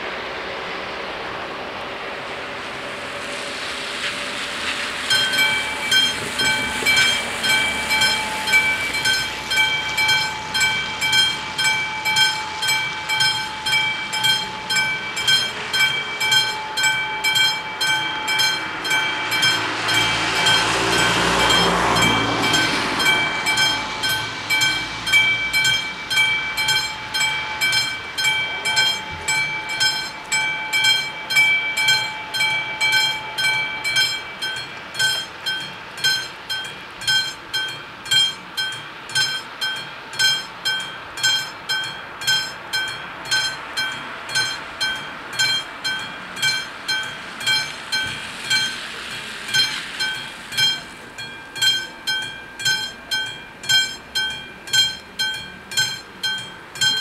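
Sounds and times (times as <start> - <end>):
passing road vehicle: 0.0 - 57.0
level crossing warning bells: 4.3 - 57.0.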